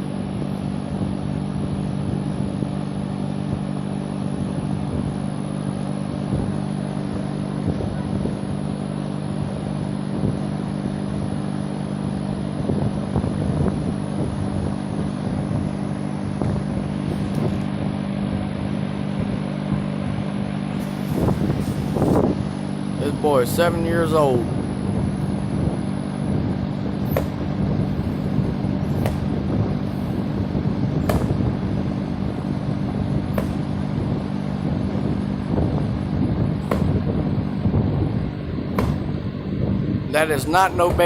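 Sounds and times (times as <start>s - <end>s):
steady mechanical hum: 0.0s - 41.0s.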